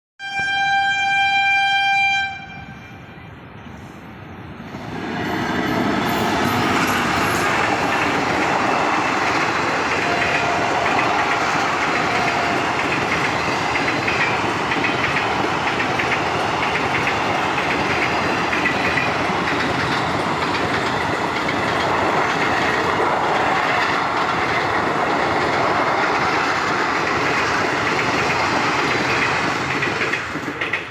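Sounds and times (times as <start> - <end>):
train wheels rumbling: 2.4 - 30.9
clickety-clack over rail joints: 4.7 - 30.9.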